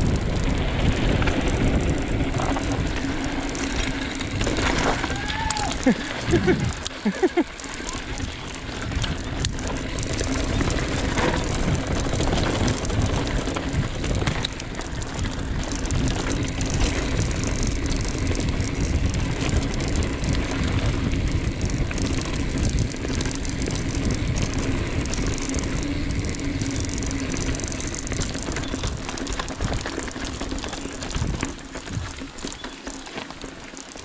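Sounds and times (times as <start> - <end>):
bike clicks and rattles: 0.0 - 34.0
bike tyres rumbling on dirt: 0.0 - 34.0.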